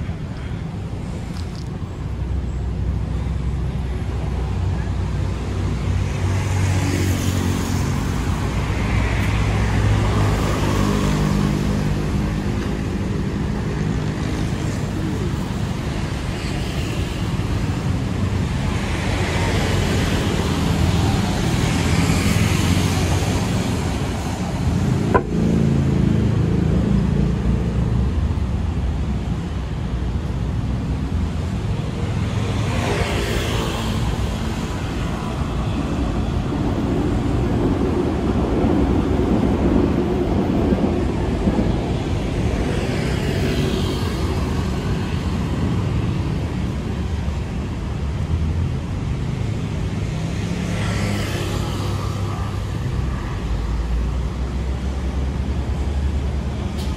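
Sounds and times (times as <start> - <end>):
road traffic: 0.0 - 56.9
vehicles passing: 0.0 - 56.9.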